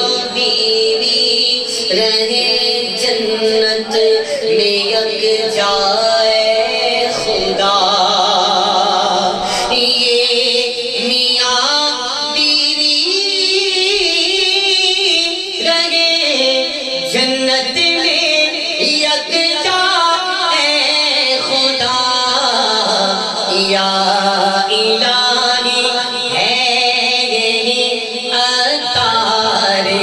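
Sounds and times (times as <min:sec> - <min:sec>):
man singing over a pa: 0:00.0 - 0:30.0.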